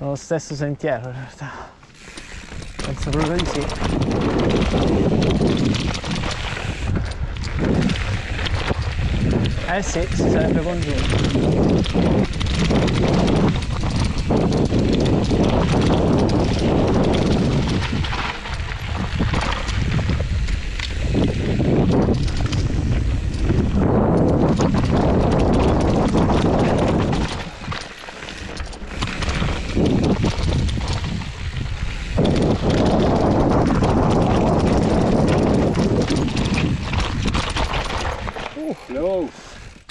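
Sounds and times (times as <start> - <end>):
bike rattling over bumps: 1.8 - 39.9
tyres rumbling over dirt: 1.8 - 39.9
wind on microphone: 2.0 - 39.9.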